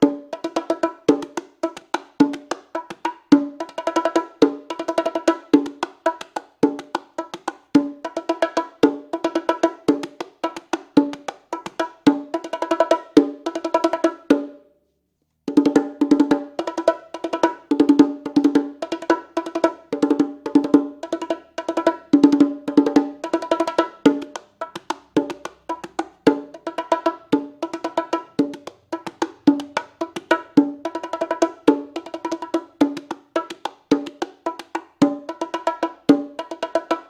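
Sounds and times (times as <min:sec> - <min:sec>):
bongos played by hand: 0:00.0 - 0:14.7, 0:15.4 - 0:37.0.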